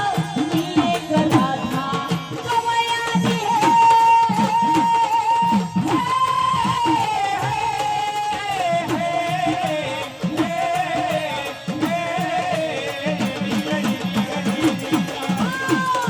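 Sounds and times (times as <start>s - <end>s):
drum strokes: 0.0s - 16.0s.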